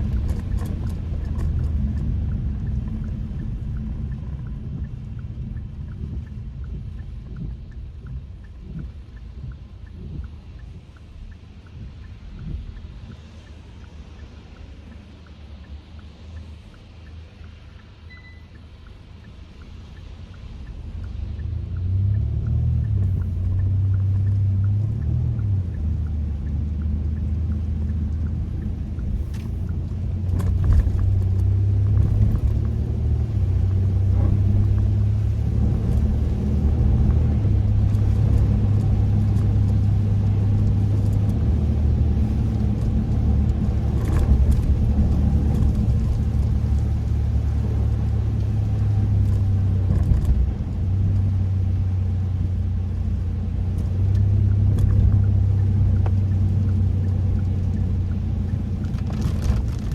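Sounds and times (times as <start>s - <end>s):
car engine and road noise: 0.0s - 59.9s
faint clicks: 0.1s - 51.3s.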